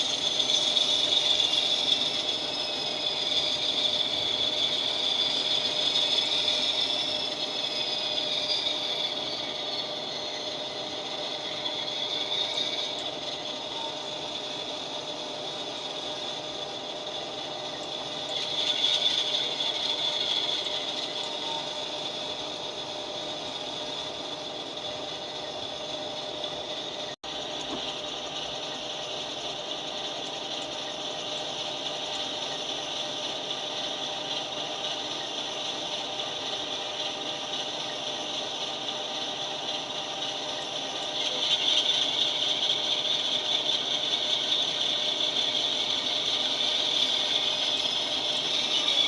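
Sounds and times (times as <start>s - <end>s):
model locomotive whine: 0.0s - 49.0s.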